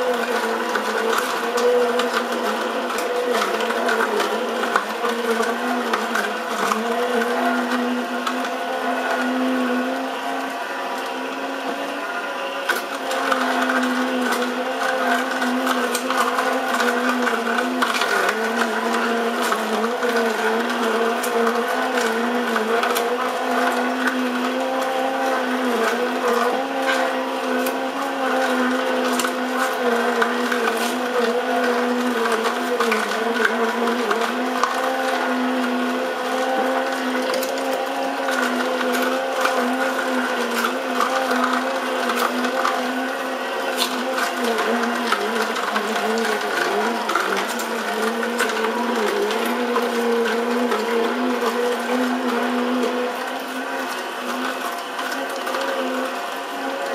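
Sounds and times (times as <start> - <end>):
crackling clicks of carrots ground: 0.0 - 56.9
juicer motor humming: 0.0 - 56.9.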